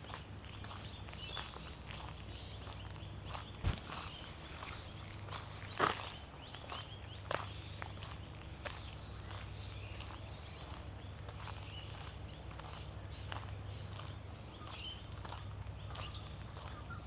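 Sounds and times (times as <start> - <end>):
small birds chirping: 0.5 - 17.0.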